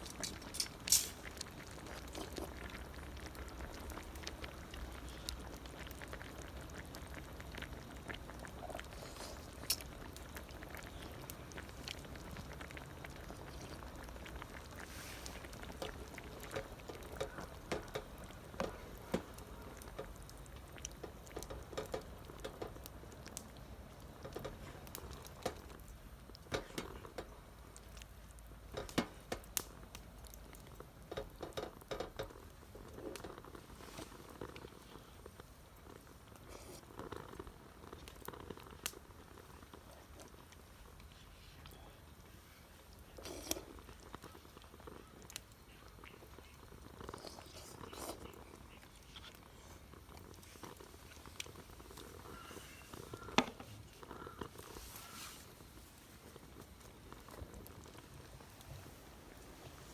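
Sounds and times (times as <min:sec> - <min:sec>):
pot bubbling: 0:00.0 - 0:59.9.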